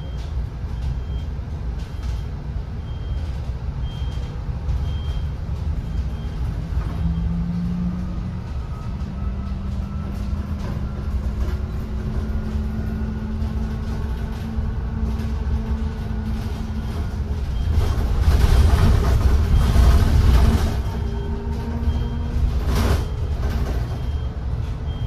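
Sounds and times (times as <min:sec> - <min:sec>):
bus road noise rumble: 0:00.0 - 0:25.0.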